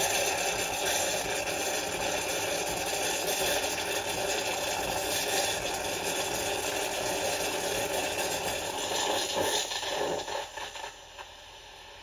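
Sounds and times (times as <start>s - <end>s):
milk frother steaming hiss: 0.0s - 12.0s.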